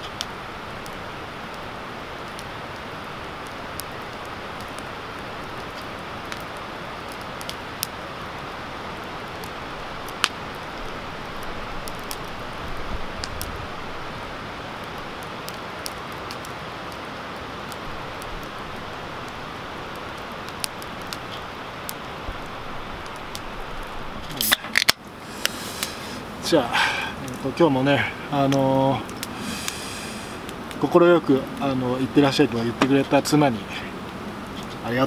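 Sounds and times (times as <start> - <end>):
campfire crackling and popping: 0.0 - 35.0.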